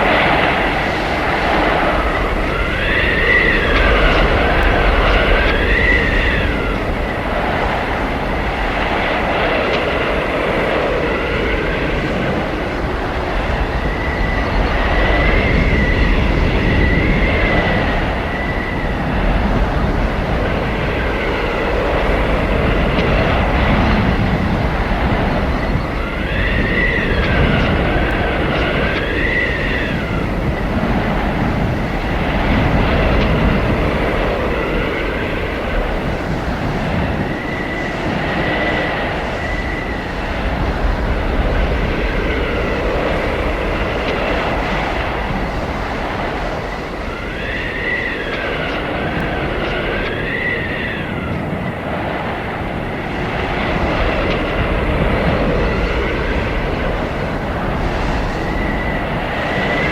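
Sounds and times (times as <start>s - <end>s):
high whistling wind howl: 0.0s - 59.9s
roaring blizzard wind gusts: 0.0s - 59.9s.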